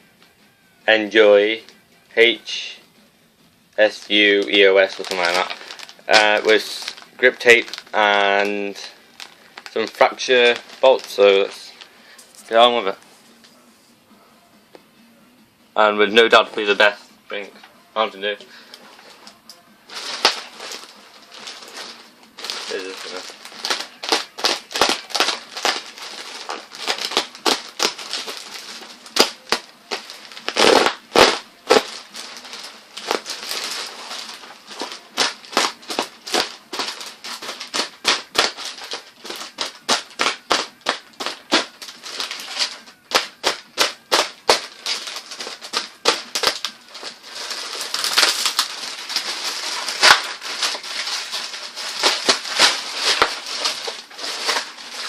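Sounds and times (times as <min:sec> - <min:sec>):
packaging crinkling: 0:03.8 - 0:12.7, 0:18.5 - 0:55.0.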